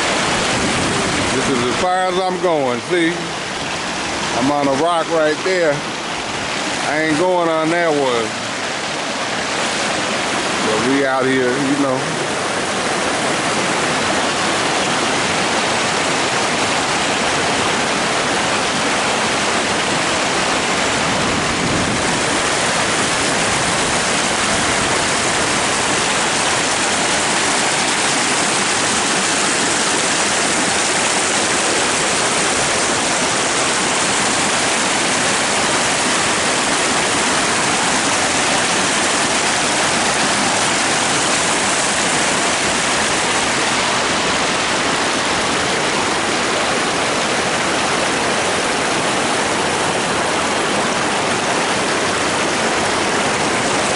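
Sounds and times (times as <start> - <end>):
waterfall pouring and splashing: 0.0 - 53.9.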